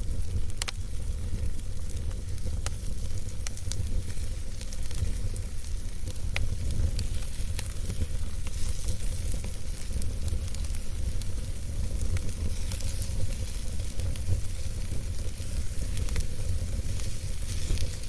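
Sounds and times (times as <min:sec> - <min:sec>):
burning wood popping and crackling: 0:00.0 - 0:18.0
campfire flames rumbling: 0:00.0 - 0:18.0.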